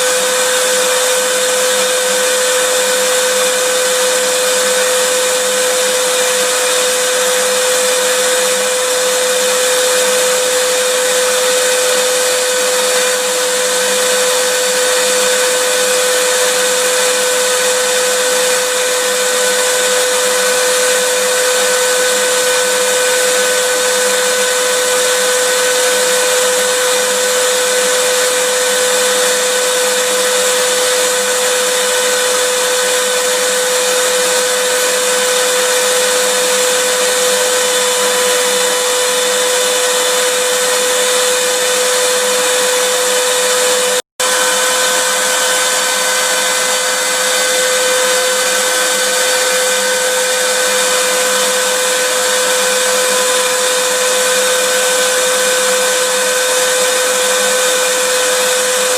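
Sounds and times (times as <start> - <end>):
vacuum cleaner running: 0.0 - 58.9.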